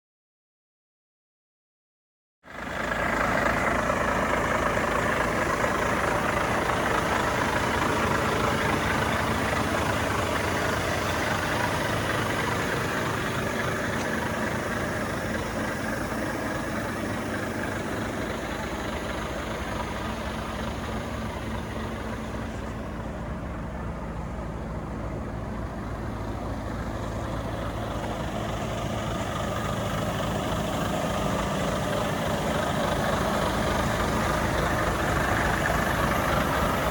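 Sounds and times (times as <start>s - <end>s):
truck engine idling: 2.5s - 36.9s.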